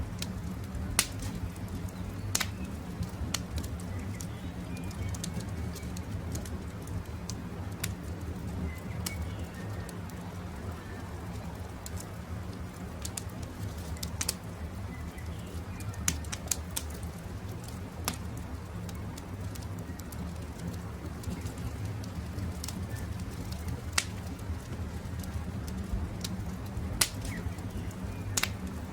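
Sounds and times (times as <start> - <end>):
birds calling faintly: 0.0 - 28.9
burning wood popping: 0.0 - 28.9
campfire crackling: 0.0 - 28.9.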